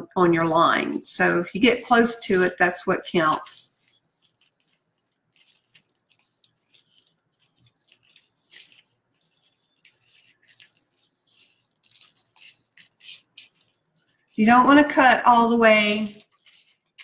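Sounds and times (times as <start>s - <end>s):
plastic crinkling: 1.4s - 17.0s.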